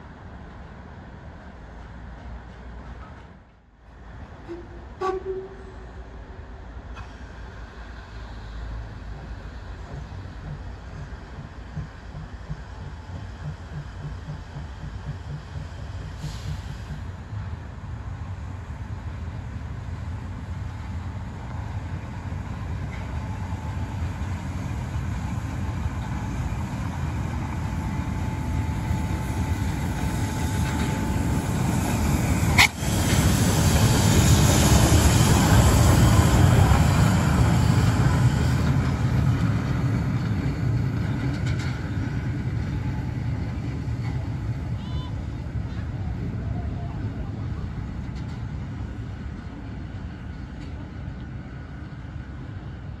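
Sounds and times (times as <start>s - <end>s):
steam locomotive rumbling: 0.0s - 53.0s.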